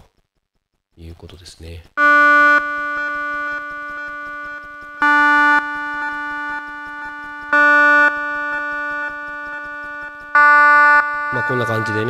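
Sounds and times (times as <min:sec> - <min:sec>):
buzzy square wave synth note: 0:02.0 - 0:12.0.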